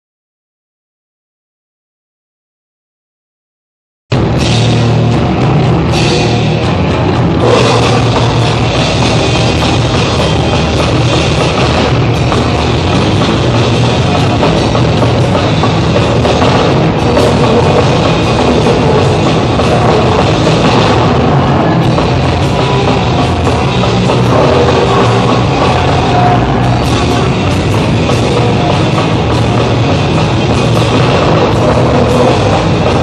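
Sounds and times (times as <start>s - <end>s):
drum kit: 4.1s - 33.0s
rock band playing heavy music: 4.1s - 33.0s.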